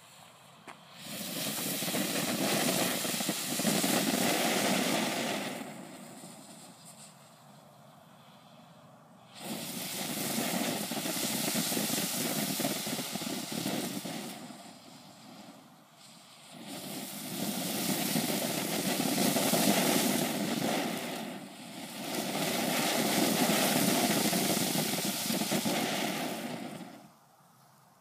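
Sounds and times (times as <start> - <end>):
firework fountain hissing: 0.0 - 27.2.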